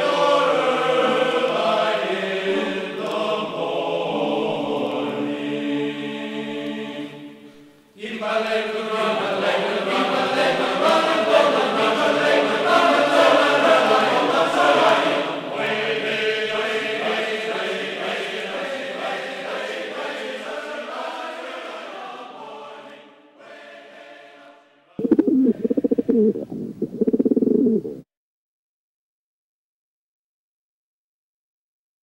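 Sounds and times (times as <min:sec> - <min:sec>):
choir-like singing: 0:00.0 - 0:26.4.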